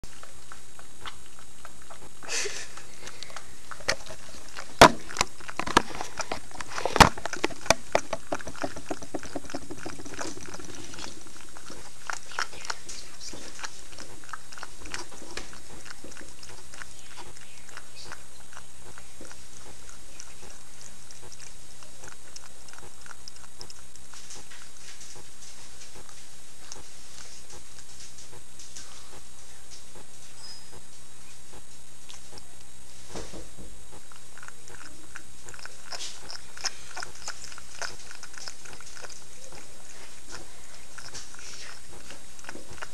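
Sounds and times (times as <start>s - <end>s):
cat chewing and crunching: 0.0s - 42.9s.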